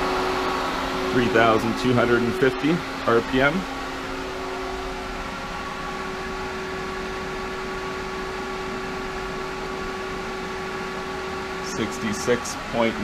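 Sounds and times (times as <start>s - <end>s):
pool pump running: 0.0s - 13.0s.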